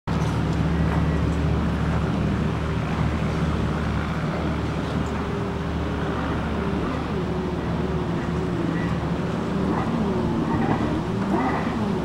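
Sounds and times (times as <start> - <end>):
boat engine droning: 0.1 - 12.0.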